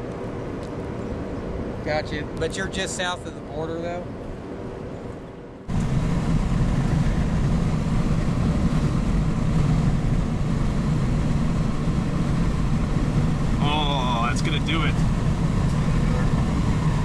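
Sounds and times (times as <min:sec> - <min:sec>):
road and wind noise in car: 0:00.0 - 0:17.0.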